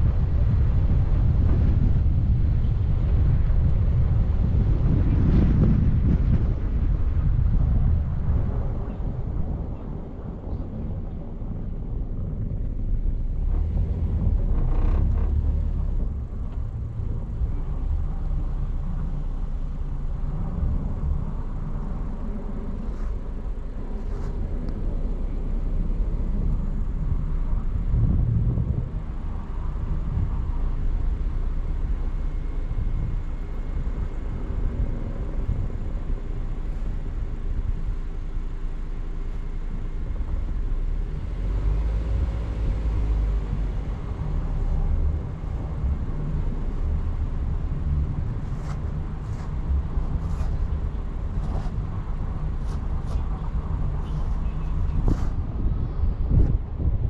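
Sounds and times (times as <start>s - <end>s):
car driving on road: 0.0s - 57.0s.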